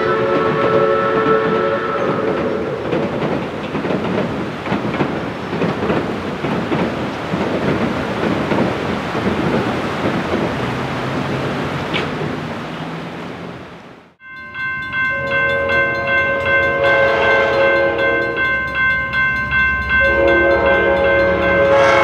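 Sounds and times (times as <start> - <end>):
steam train running: 0.0 - 13.1, 14.4 - 22.0.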